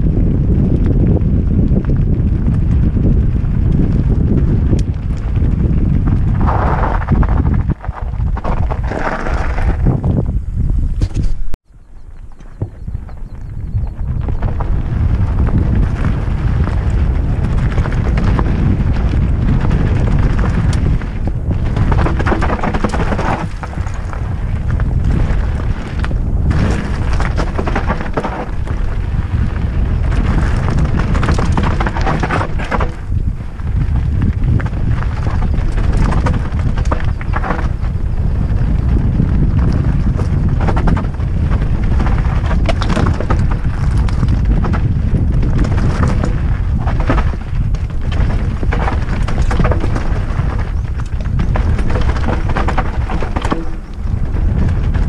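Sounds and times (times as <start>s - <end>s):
bike rattling over rocks: 0.0s - 55.0s
tyres crunching over stones: 0.0s - 55.0s
wind buffeting microphone: 0.0s - 55.0s.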